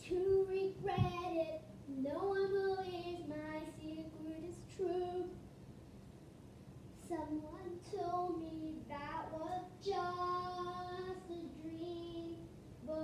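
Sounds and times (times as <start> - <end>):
girl singing unaccompanied: 0.0 - 5.5, 7.0 - 13.0.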